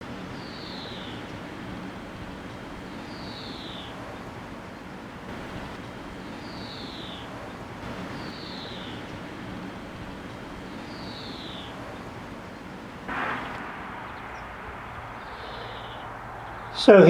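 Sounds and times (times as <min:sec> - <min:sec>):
outdoor background hiss: 0:00.0 - 0:17.0
bird whistling call: 0:00.2 - 0:04.2, 0:05.4 - 0:17.0.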